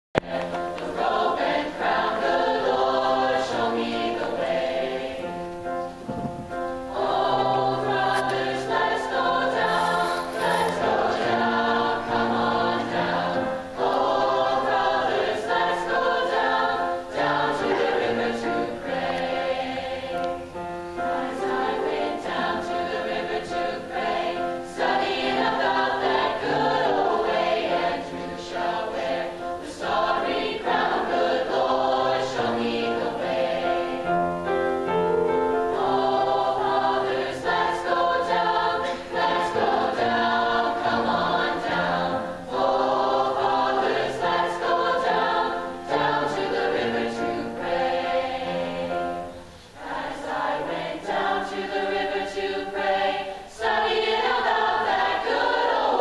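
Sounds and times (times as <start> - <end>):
choir singing in harmony: 0.2 - 56.0.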